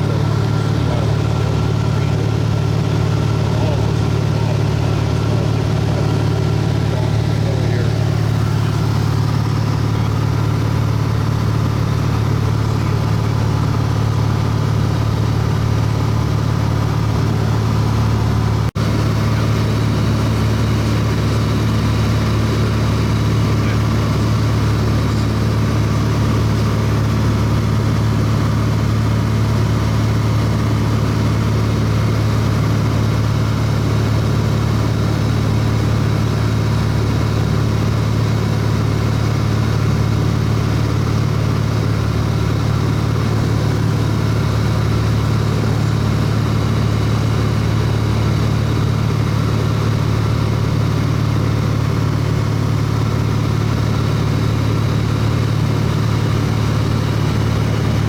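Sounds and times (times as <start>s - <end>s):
airplane engine and propeller hum: 0.0s - 58.0s.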